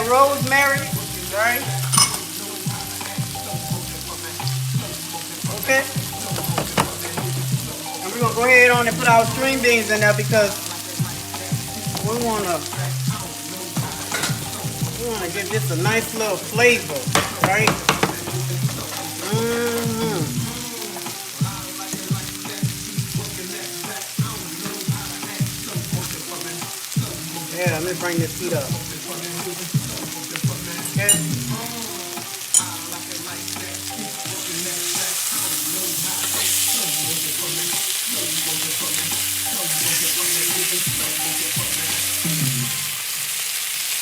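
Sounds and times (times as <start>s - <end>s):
background music with beat: 0.0s - 43.2s
food sizzling in a pan: 0.0s - 44.0s
song playing in background: 0.0s - 44.0s.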